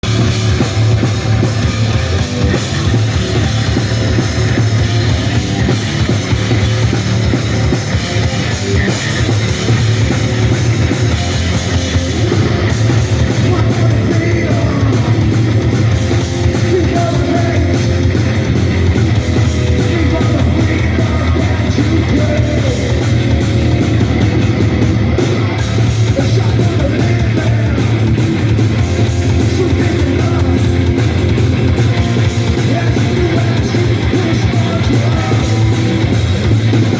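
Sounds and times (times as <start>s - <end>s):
rock band playing punk live: 0.0s - 36.9s.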